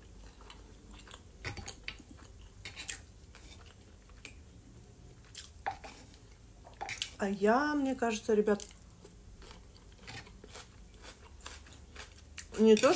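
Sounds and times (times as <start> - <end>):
chewing fried potatoes: 0.0 - 4.5, 5.1 - 7.2, 8.4 - 12.9.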